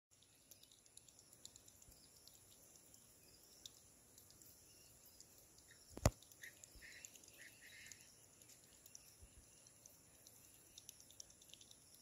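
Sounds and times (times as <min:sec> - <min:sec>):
faint ticks: 0:00.1 - 0:12.0.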